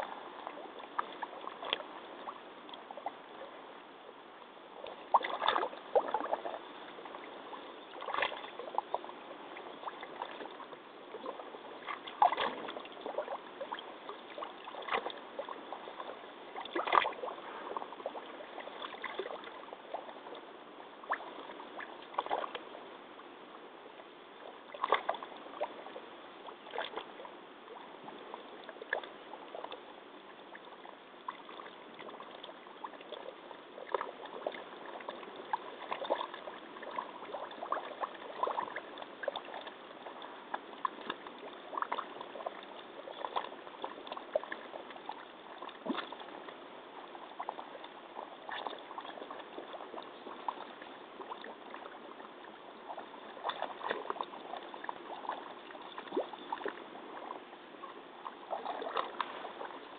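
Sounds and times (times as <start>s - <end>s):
muddy water sloshing and splashing: 0.0s - 3.5s, 4.8s - 22.7s, 24.5s - 59.9s.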